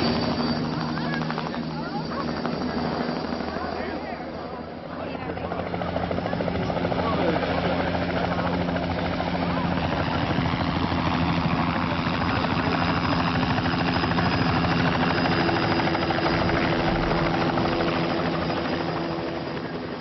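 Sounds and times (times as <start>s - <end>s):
helicopter engine tones: 0.0s - 20.0s
helicopter rotor chop: 0.0s - 20.0s.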